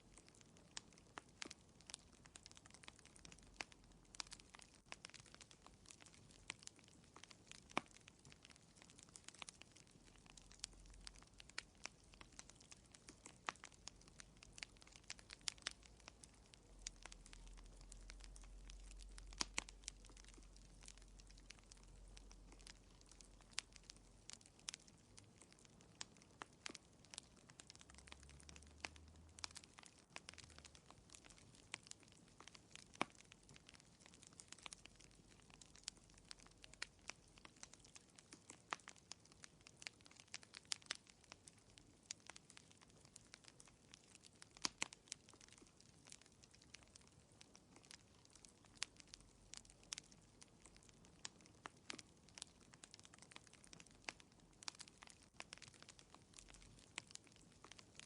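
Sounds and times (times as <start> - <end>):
faint fire snaps and pops: 0.0 - 58.0.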